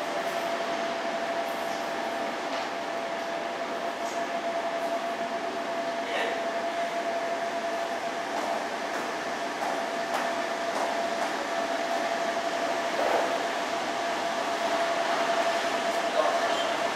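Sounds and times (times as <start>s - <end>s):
air conditioning hiss: 0.0s - 16.9s.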